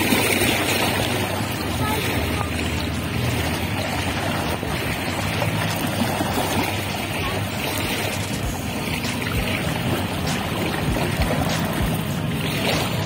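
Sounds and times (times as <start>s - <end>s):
low hum: 0.0s - 13.0s
waves lapping on pebble shore: 0.0s - 13.0s.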